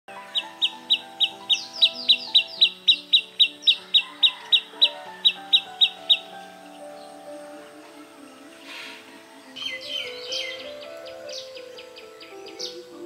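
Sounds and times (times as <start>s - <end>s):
bird chirping: 0.1s - 13.0s
soft background music: 0.1s - 13.0s.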